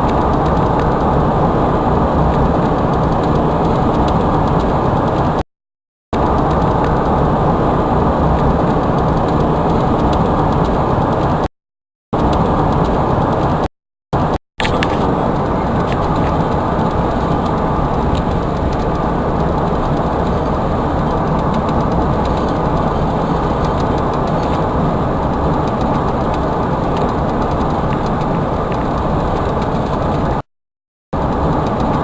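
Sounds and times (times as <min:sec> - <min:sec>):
vehicle road and engine noise: 0:00.0 - 0:05.4, 0:06.2 - 0:11.5, 0:12.2 - 0:30.5, 0:31.2 - 0:32.0.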